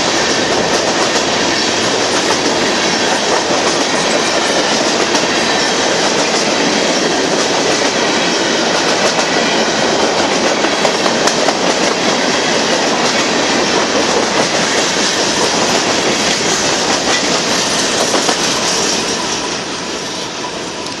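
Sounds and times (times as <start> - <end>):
freight train wheels rattling: 0.0 - 21.0.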